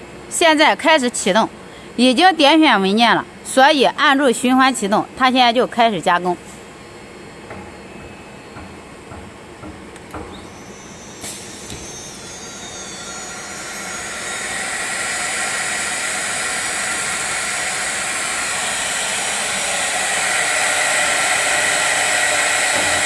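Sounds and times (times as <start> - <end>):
spindle high-pitched whine: 0.0 - 23.0.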